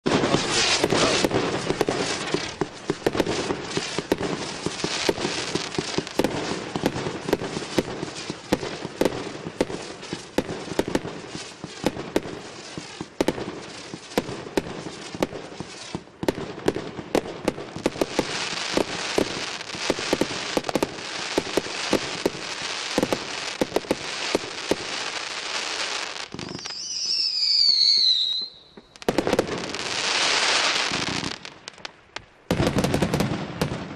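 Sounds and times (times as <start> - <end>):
fireworks shots and crackle: 0.0 - 33.9.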